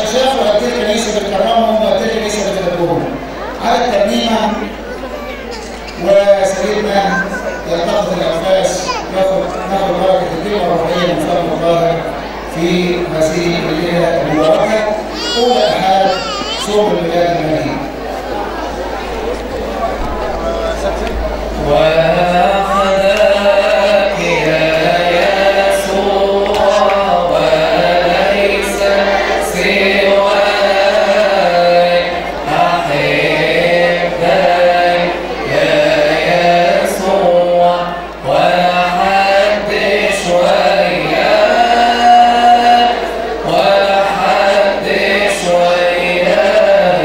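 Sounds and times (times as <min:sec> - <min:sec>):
voices singing a hymn: 0:05.7 - 0:47.0.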